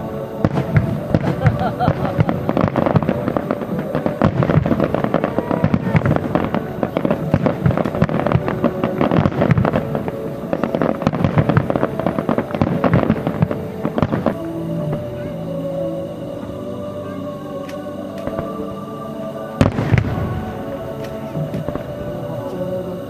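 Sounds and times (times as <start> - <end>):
fireworks bursts and crackles: 0.0 - 23.0
music playing: 0.0 - 23.0.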